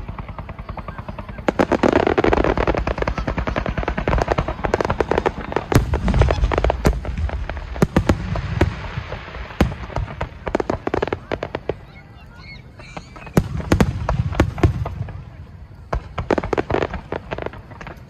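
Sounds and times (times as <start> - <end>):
fireworks bursts and crackling: 0.0 - 18.0
low fireworks booms: 0.0 - 18.0.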